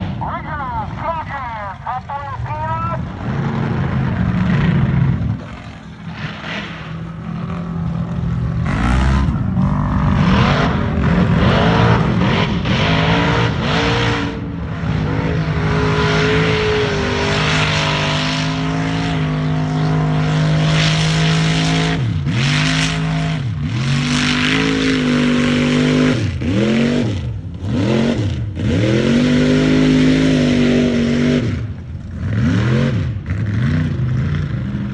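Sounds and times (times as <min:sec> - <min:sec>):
truck engine revving: 0:01.3 - 0:34.9.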